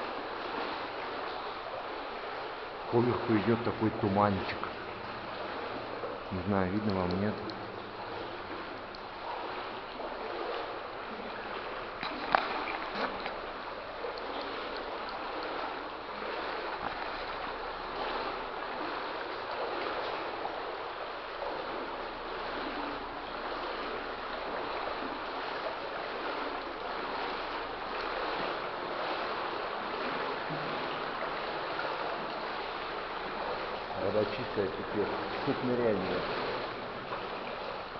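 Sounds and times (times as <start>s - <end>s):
sharp splash: 0.0s - 37.9s
water sloshing around wading legs: 0.0s - 37.9s.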